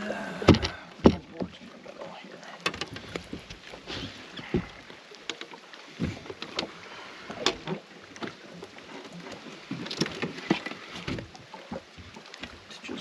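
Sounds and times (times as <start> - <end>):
water and wind: 0.0 - 13.0.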